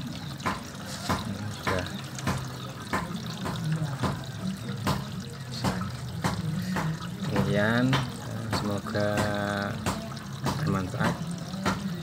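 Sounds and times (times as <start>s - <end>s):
water draining through pipe: 0.0s - 12.0s.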